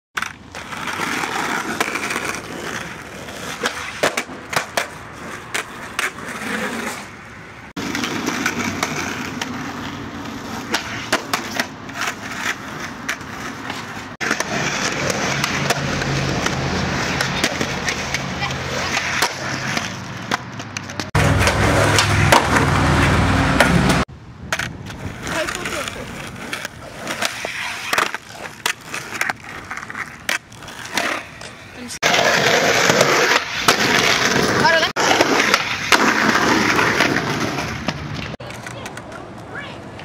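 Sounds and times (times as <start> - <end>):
skateboard deck clacking: 0.2 - 7.1, 7.8 - 40.0
skateboard wheels rolling on pavement: 0.2 - 40.0.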